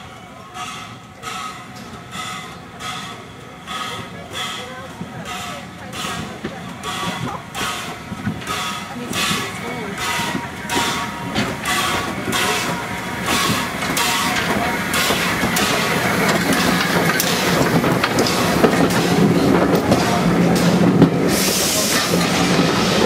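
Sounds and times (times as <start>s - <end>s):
steam locomotive chuffing: 0.0s - 23.0s
train rumble: 0.0s - 23.0s
wheels clicking over rail joints: 0.6s - 23.0s.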